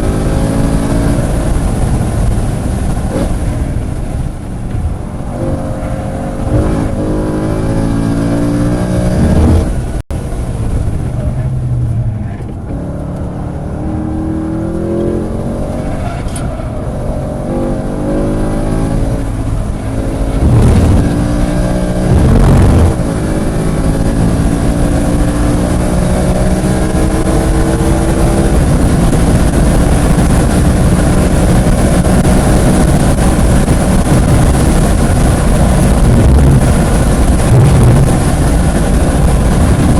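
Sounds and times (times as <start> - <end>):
car engine accelerating: 0.0 - 39.9
wind and road noise: 0.0 - 39.9.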